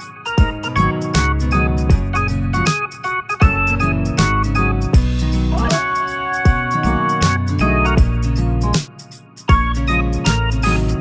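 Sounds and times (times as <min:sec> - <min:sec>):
keyboard music with bass line: 0:00.0 - 0:11.0
drum beat: 0:00.3 - 0:10.7.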